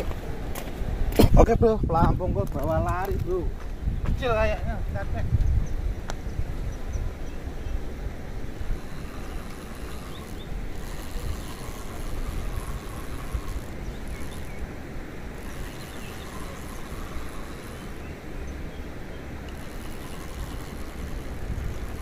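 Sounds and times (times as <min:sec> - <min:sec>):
faint outdoor hiss: 0:00.0 - 0:22.0
wind buffeting microphone: 0:00.0 - 0:22.0.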